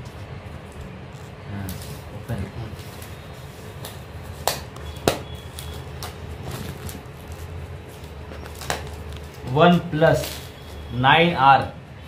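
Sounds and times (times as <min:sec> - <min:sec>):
plastic handling noise: 0:00.0 - 0:10.9.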